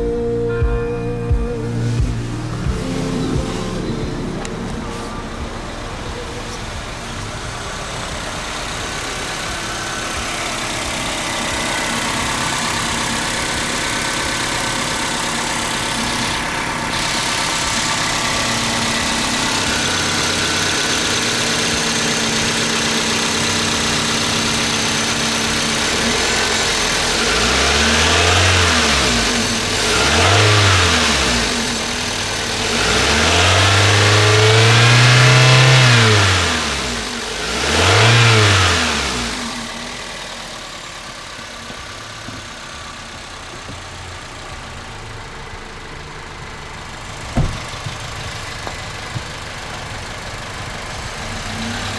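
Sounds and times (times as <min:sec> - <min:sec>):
car engine idling and revving: 0:00.0 - 0:51.9.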